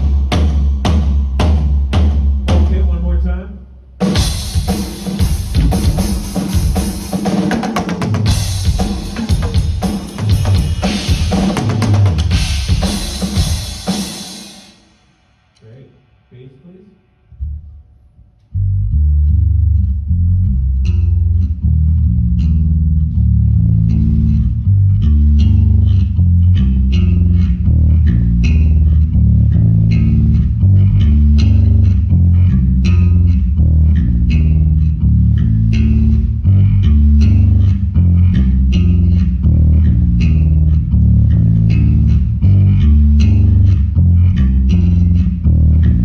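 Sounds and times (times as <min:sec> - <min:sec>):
plucked electric bass guitar: 0:00.0 - 0:13.6, 0:17.3 - 0:17.8, 0:18.4 - 0:46.0.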